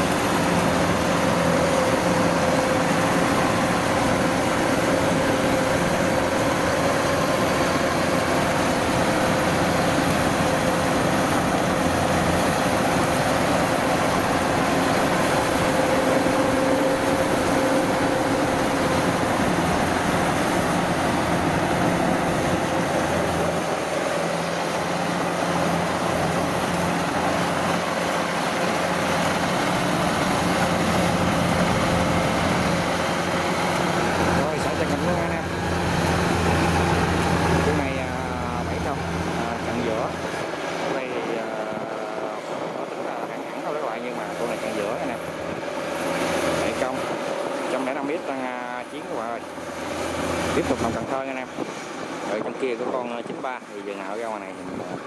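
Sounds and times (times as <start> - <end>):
combine harvester engine drone: 0.0 - 55.0
threshing works whirring: 0.0 - 55.0.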